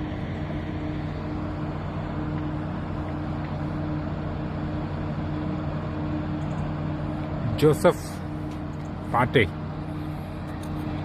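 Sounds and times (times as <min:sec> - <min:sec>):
diesel engines humming: 0:00.0 - 0:11.0.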